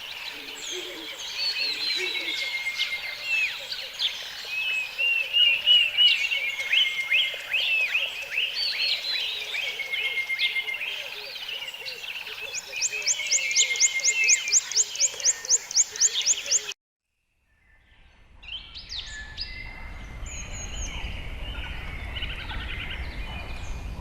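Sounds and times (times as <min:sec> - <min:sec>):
birds chirping and whistling: 0:00.0 - 0:16.8, 0:17.7 - 0:24.0.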